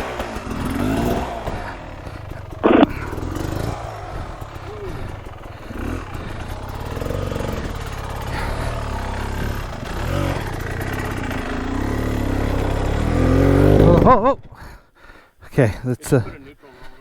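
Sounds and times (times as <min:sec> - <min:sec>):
dirt bike engine revving: 0:00.0 - 0:14.3.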